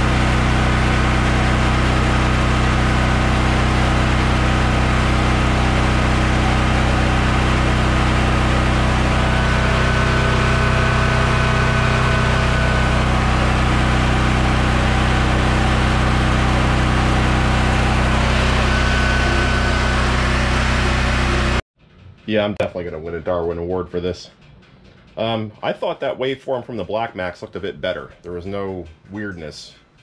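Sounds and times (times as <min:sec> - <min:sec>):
portable generator running: 0:00.0 - 0:25.8.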